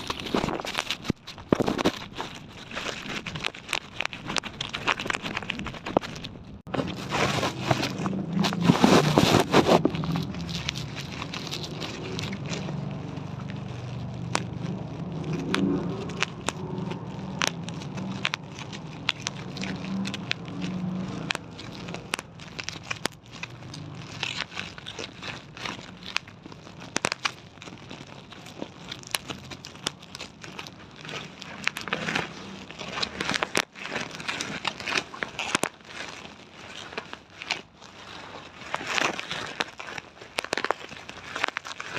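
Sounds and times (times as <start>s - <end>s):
sharp clicks and crackles: 0.0s - 41.9s.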